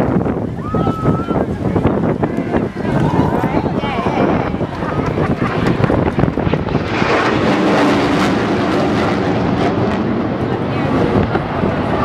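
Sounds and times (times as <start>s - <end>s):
jet engines roaring past: 0.0s - 12.0s.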